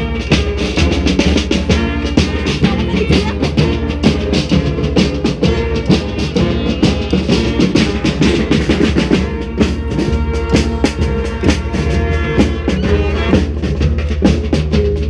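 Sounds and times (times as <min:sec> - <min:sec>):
bass drum and snare beat: 0:00.0 - 0:15.0
brass band playing: 0:00.0 - 0:15.0.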